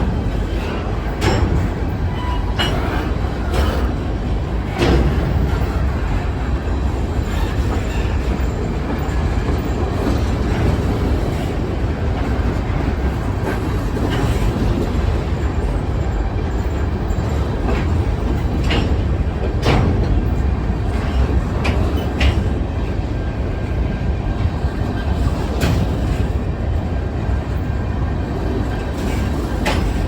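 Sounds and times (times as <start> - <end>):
wheels clicking over rail joints: 0.0 - 22.9, 27.5 - 30.0
freight train wheels rumbling on rail: 0.0 - 30.0.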